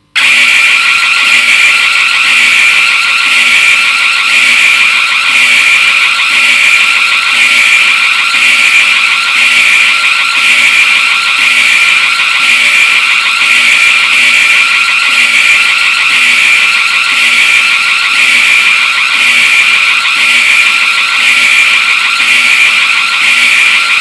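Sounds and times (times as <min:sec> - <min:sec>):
harsh emergency alarm tone: 0:00.0 - 0:24.0.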